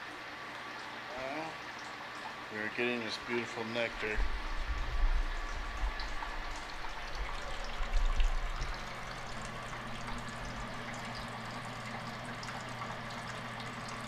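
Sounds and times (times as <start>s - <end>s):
low steady hum: 0.0s - 14.0s
liquid pouring from hose: 0.1s - 14.0s.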